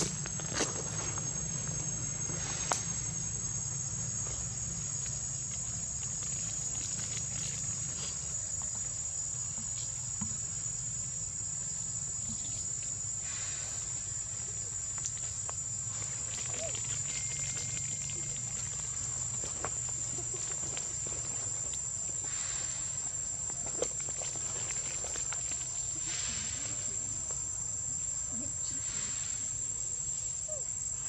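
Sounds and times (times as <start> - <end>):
high-pitched insect drone: 0.0 - 31.0.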